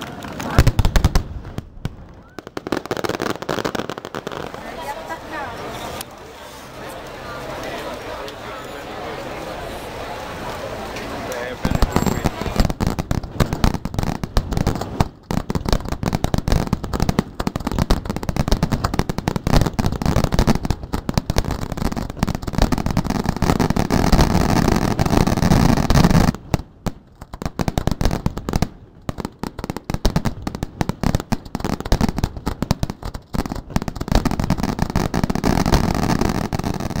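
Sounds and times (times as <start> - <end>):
fireworks bursting and crackling: 0.0 - 37.0.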